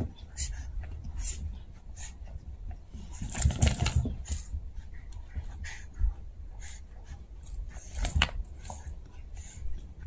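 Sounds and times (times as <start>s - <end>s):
puppies rustling in toys: 0.0s - 10.0s.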